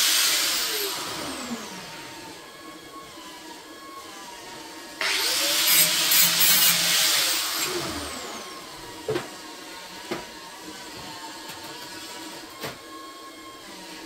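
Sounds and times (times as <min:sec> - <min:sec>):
power tool hissing and winding down: 0:00.0 - 0:14.0.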